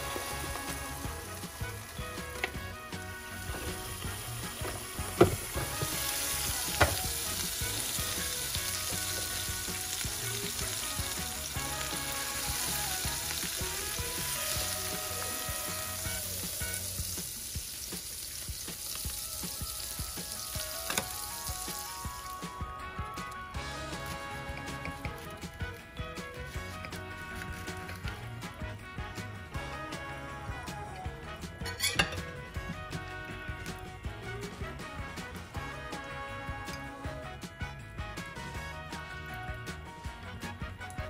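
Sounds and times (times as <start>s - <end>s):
food sizzling on contact grill: 0.0s - 34.2s.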